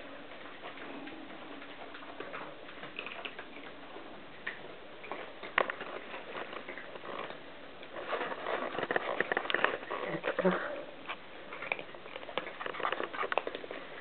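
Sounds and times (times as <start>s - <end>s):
cats crunching dry kibble: 0.0s - 14.0s.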